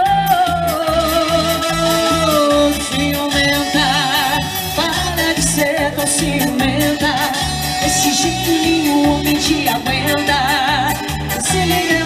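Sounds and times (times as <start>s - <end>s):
live dance music: 0.0s - 12.0s.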